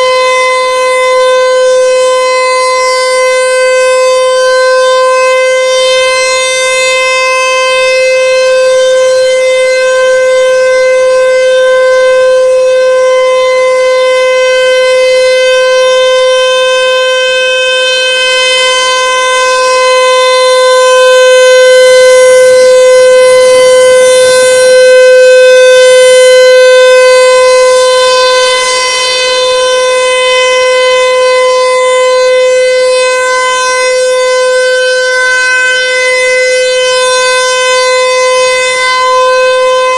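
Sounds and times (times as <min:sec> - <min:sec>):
siren steady loud tone: 0:00.0 - 0:39.9.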